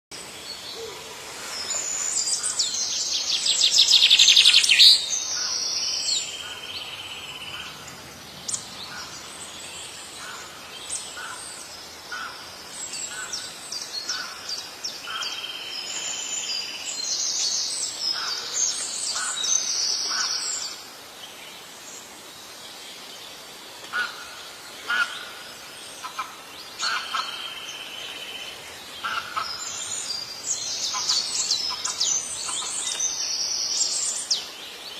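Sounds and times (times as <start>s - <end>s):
songbirds trilling and chirping: 0.1s - 34.9s.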